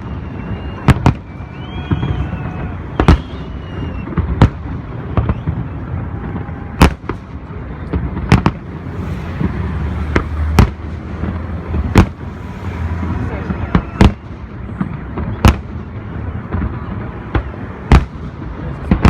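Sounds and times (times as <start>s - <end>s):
firework bangs: 0.0s - 19.0s.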